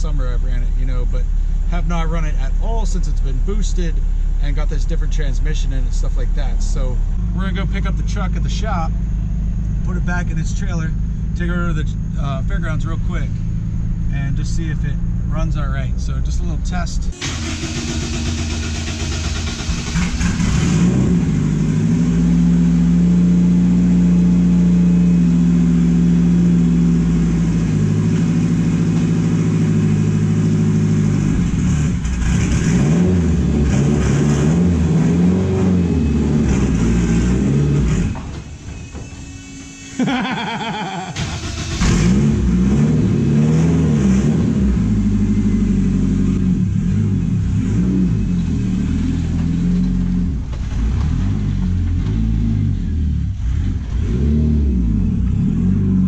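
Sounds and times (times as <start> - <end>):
turbocharged engine revving: 1.9 - 38.2, 40.0 - 56.0.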